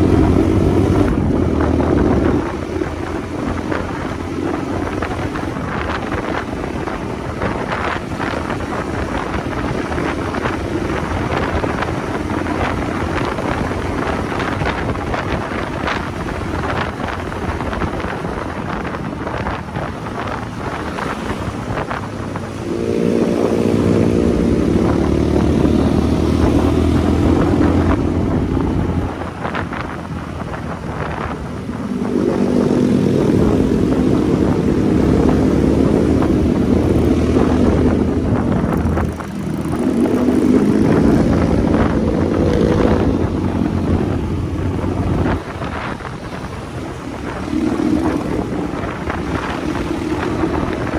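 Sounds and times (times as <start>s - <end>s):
motorcycle engine: 0.0s - 50.9s
wind noise on microphone: 0.0s - 50.9s.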